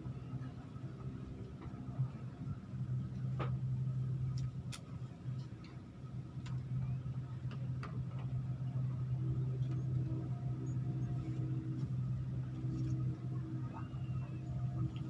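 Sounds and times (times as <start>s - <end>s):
motor humming low: 0.0s - 15.0s.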